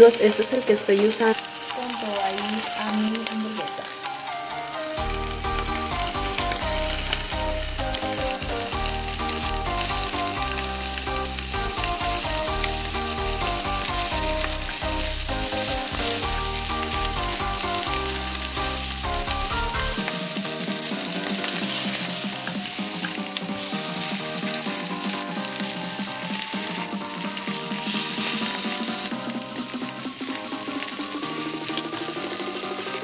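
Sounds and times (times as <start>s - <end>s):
chopsticks stirring in a pan: 0.0s - 33.0s
food sizzling in a frying pan: 0.0s - 33.0s
background music with bass line: 4.5s - 33.0s.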